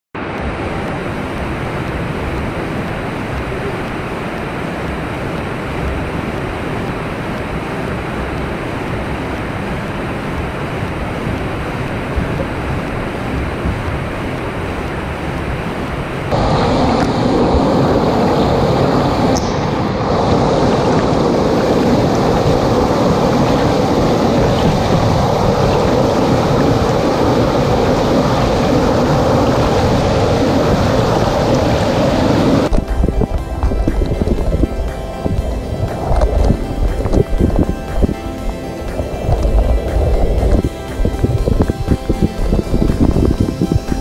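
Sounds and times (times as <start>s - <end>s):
waterfall rushing over rocks: 0.2s - 44.0s.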